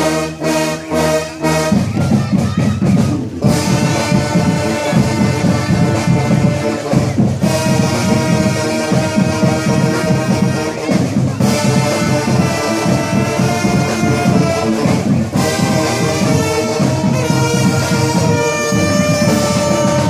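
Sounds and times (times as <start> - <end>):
marching band brass playing: 0.0 - 20.0
sousaphone pulsing bass line: 1.5 - 20.0.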